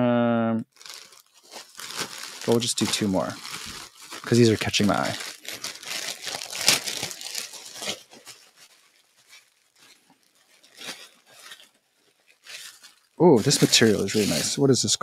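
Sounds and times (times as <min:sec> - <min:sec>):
plastic bag crinkling: 0:00.6 - 0:14.6.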